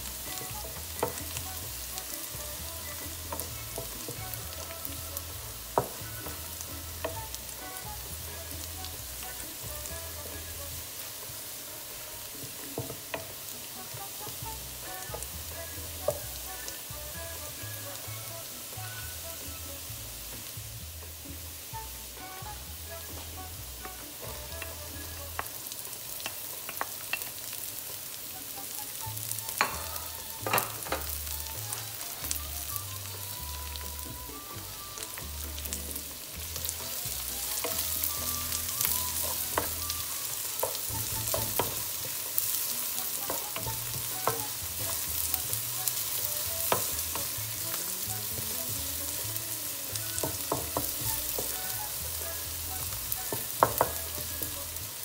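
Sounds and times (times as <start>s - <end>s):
onion sizzling in oil: 0.0s - 55.0s.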